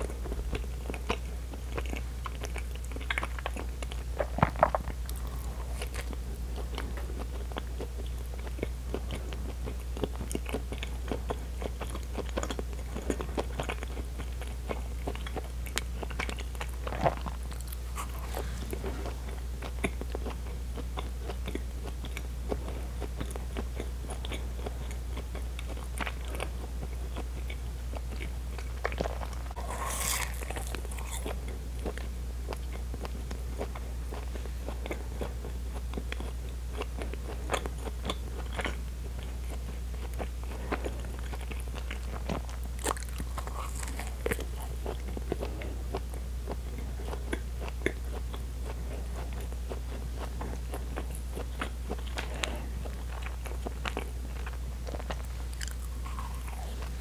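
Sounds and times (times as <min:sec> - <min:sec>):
chewing soft bread: 0:00.0 - 0:57.0
steady low hum: 0:00.0 - 0:57.0.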